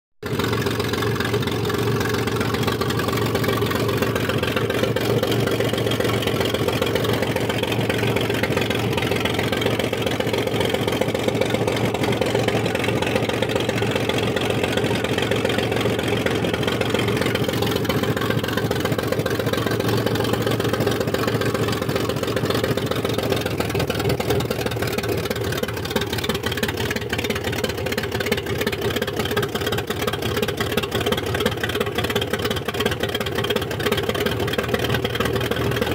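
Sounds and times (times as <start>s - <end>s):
car engine idling: 0.2s - 35.9s.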